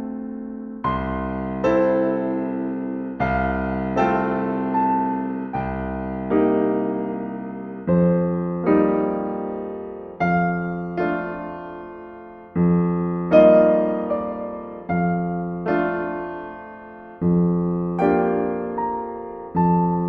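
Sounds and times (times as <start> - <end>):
slow solo piano chords: 0.0 - 20.0.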